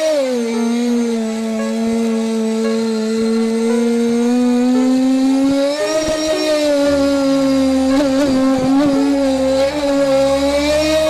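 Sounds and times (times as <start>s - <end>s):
wavering lead tone: 0.1s - 11.0s
bass line: 0.6s - 11.0s.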